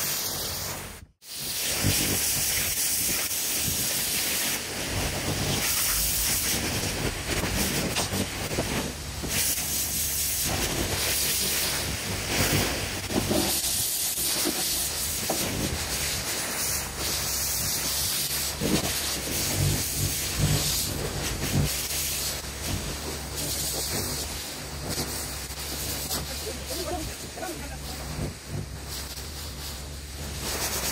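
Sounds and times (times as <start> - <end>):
pressure washer jet hissing on stone: 0.0 - 30.9
pressure washer machine hum: 0.0 - 30.9.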